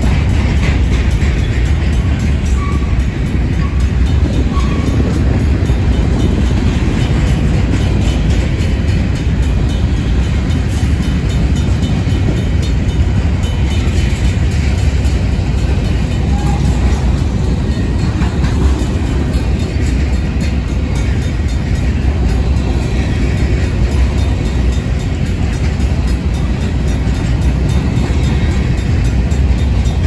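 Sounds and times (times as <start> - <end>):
crossing bell ringing: 0.0 - 30.0
train wheels rumbling on rail: 0.0 - 30.0.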